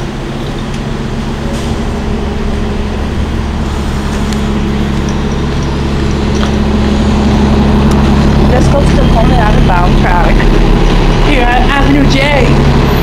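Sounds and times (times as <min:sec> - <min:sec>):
subway train drone: 0:00.0 - 0:13.0.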